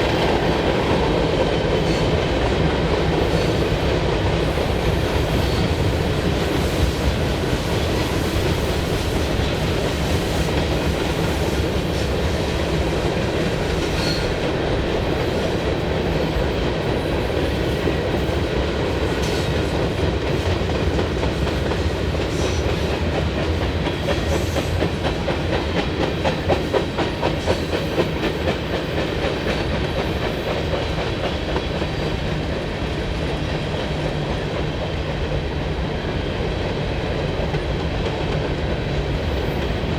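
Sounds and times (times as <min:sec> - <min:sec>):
freight train cars rolling: 0:00.0 - 0:39.9
train wheels clicking over rail joints: 0:00.0 - 0:39.9.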